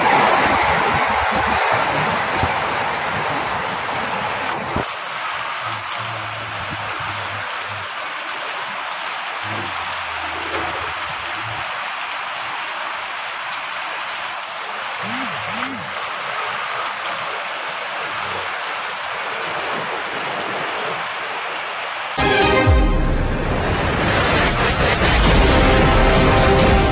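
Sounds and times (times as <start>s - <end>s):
heavy rain on roofs and street: 0.0s - 26.9s.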